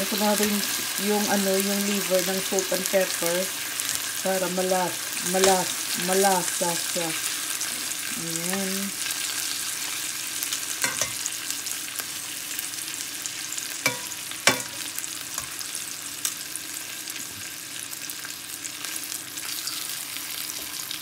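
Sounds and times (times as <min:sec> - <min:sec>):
liver sizzling in a pan: 0:00.0 - 0:21.0.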